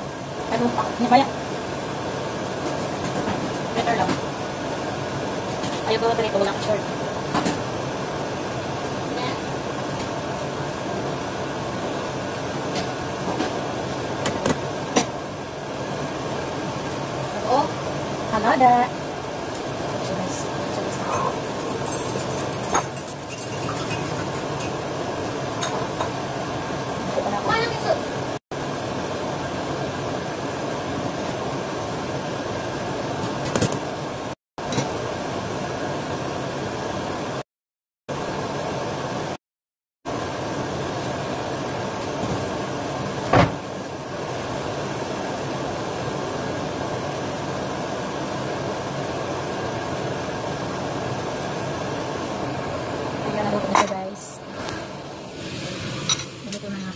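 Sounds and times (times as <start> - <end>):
kitchen fan whirring: 0.0 - 37.4, 38.1 - 39.4, 40.1 - 56.9.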